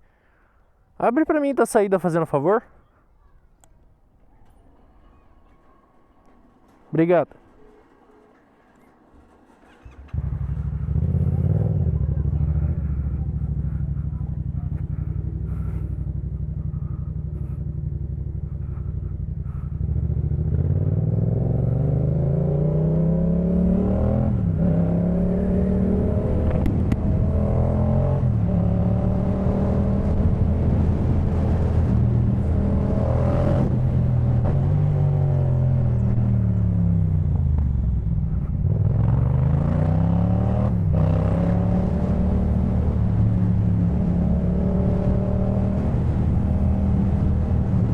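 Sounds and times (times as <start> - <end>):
motorcycle engine revving: 6.8 - 47.9.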